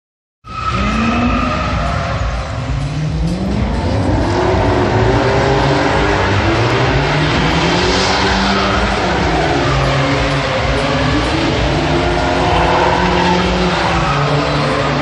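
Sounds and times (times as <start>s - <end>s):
car engine revving hard: 0.8s - 15.0s.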